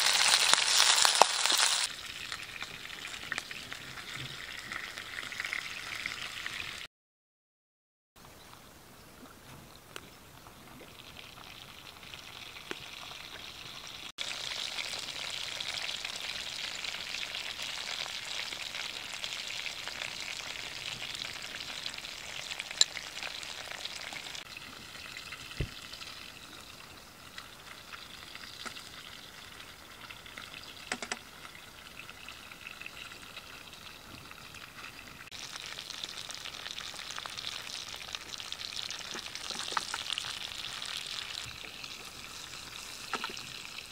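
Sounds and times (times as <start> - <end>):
fish sizzling in hot oil: 0.0 - 6.9, 10.9 - 43.9.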